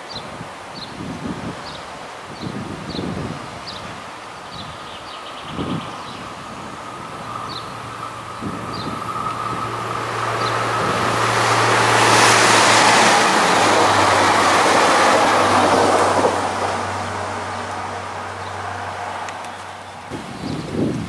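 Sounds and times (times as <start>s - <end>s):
train passing at speed: 0.0s - 20.6s.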